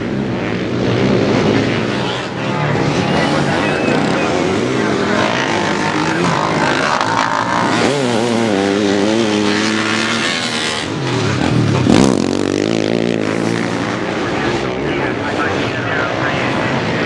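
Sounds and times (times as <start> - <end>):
motorcycle engines revving: 0.0 - 17.0
motorcycle passing by: 0.0 - 17.0.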